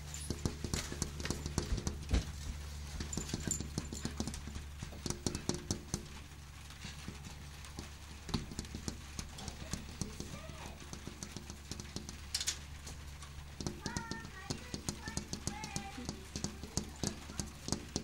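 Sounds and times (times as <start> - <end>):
steady low hum: 0.0 - 18.0
taps on glass window pane: 0.0 - 18.0.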